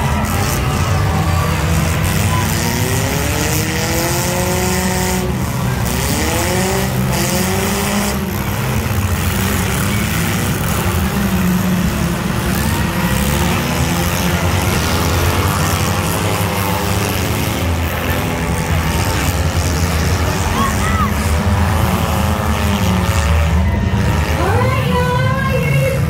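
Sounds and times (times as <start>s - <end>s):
car engines rumbling: 0.0s - 26.0s
engine revving: 0.0s - 26.0s.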